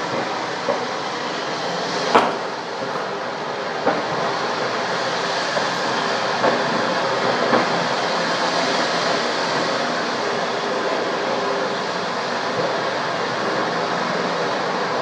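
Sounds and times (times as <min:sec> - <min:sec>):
large fire burning: 0:00.0 - 0:15.0.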